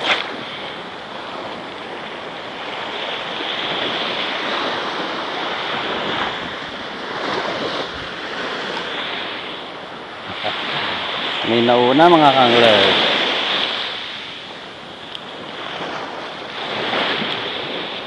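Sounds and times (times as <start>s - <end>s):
waves washing up a beach: 0.0s - 18.0s
wind buffeting microphone: 0.0s - 18.0s.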